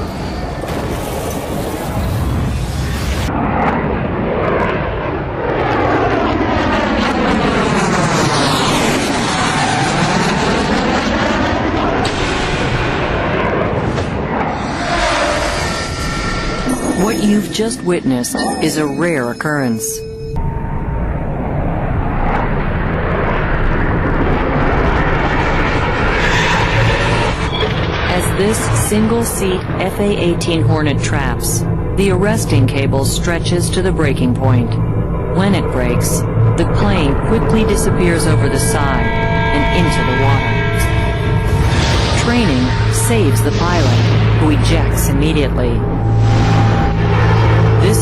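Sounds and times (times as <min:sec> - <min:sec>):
jet plane passing close: 0:00.0 - 0:18.0, 0:20.4 - 0:35.3, 0:36.1 - 0:48.0.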